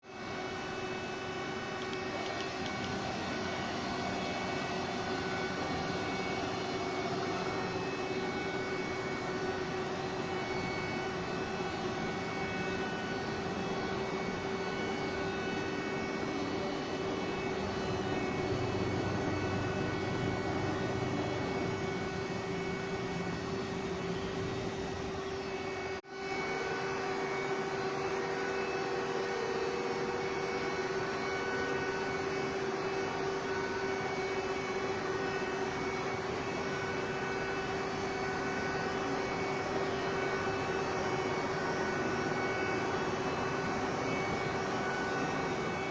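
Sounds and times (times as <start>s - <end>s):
machining center humming: 0.0s - 45.9s.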